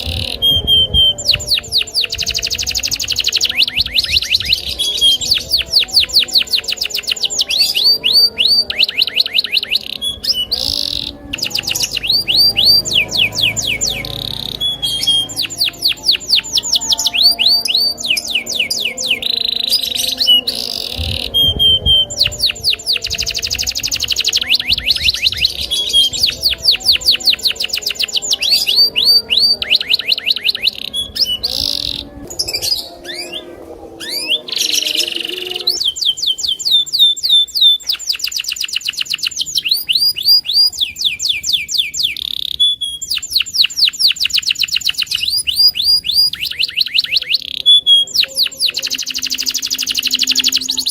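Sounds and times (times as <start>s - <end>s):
canary singing rapid trills: 0.0s - 50.9s.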